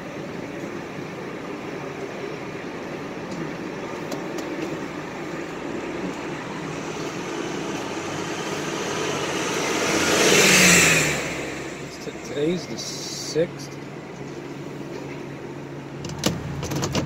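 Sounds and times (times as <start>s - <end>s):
heavy vehicle approaching: 0.0s - 15.9s
city street traffic: 0.0s - 17.0s.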